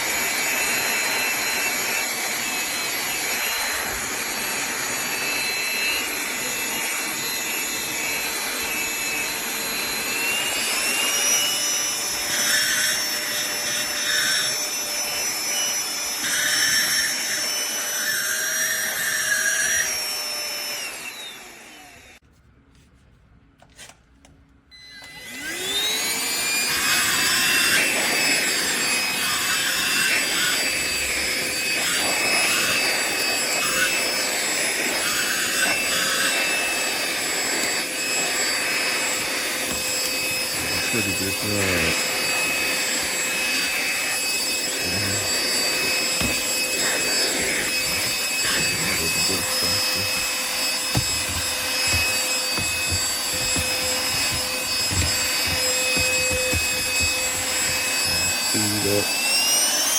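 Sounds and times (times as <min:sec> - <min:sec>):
handheld vacuum cleaner whine: 0:00.0 - 0:22.2, 0:24.7 - 0:59.9.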